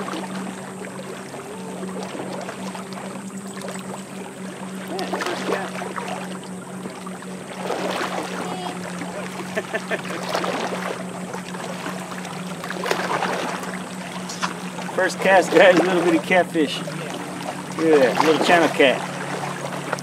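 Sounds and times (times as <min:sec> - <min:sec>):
motorboat humming: 0:00.0 - 0:20.0.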